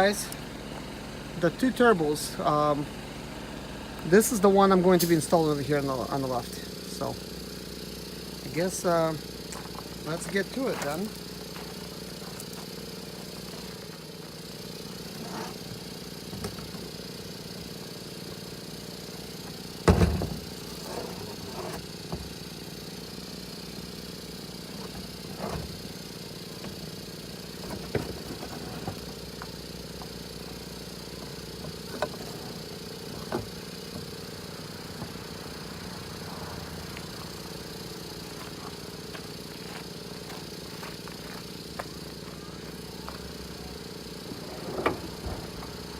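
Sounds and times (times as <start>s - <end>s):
mechanical engine-like drone: 0.0s - 45.9s.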